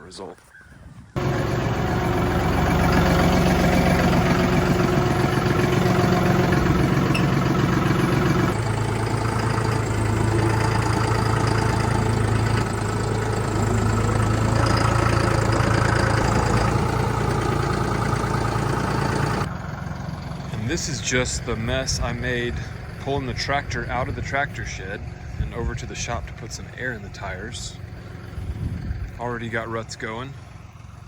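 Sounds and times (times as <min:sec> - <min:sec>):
diesel tractor engine running: 0:01.2 - 0:31.0.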